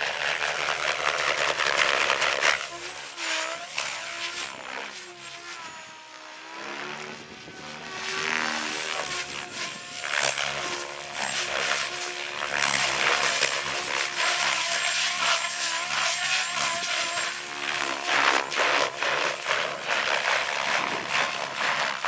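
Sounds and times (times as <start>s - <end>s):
electric motor whine: 0.0s - 22.0s
rc helicopter rotor whoosh: 0.0s - 22.0s.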